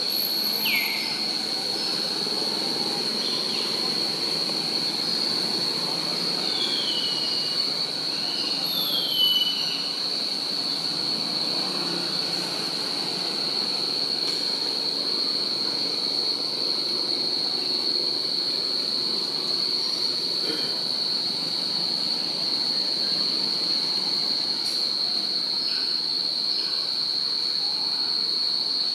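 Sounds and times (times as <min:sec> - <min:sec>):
cicadas whining: 0:00.0 - 0:28.9.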